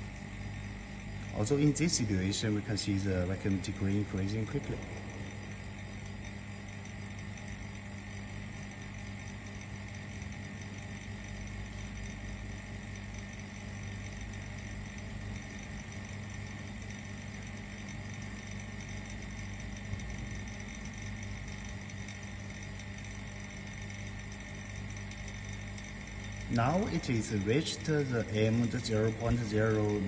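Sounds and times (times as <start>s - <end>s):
vacuum pump humming: 0.0s - 30.0s.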